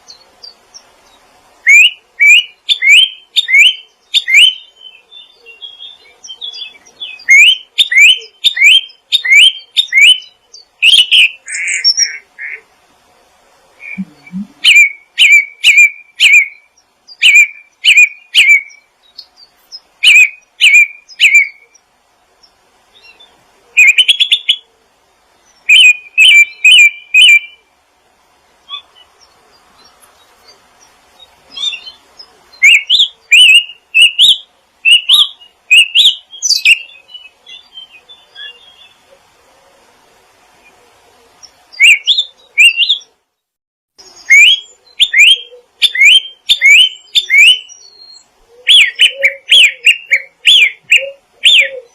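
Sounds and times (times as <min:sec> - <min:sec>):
songbird chirping: 0:00.0 - 0:51.9.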